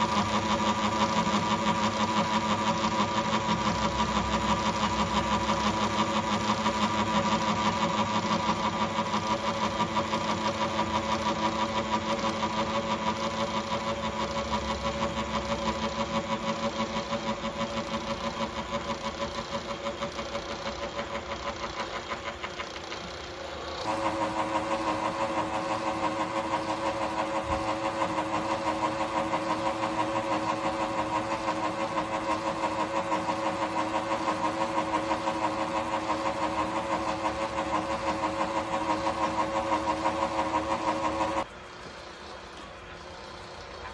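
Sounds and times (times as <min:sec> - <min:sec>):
milling machine pulsing: 0:00.0 - 0:43.9.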